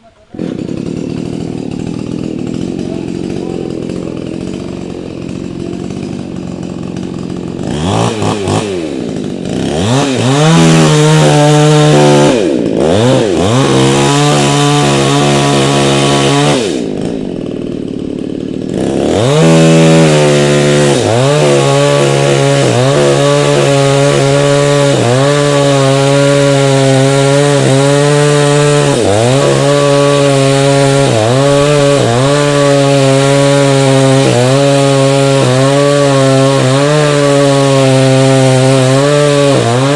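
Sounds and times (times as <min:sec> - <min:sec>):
chainsaw cutting wood: 0:00.0 - 0:39.9
chainsaw idling and revving: 0:00.0 - 0:39.9.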